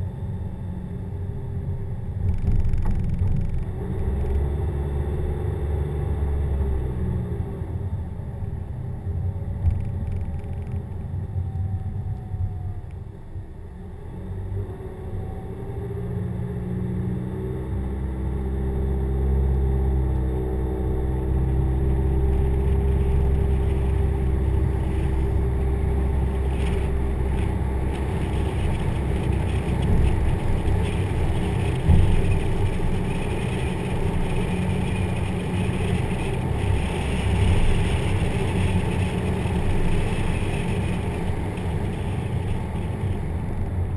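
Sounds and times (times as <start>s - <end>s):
car engine from inside cabin: 0.0s - 43.9s
road noise: 0.0s - 43.9s.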